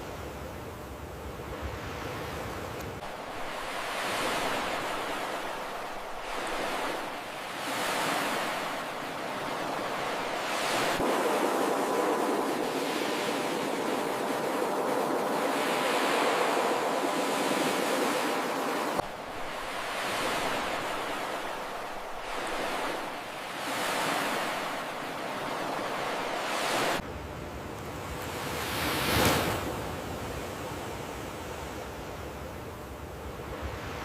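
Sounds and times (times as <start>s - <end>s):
waves breaking on shore: 1.3s - 27.0s, 28.0s - 32.3s.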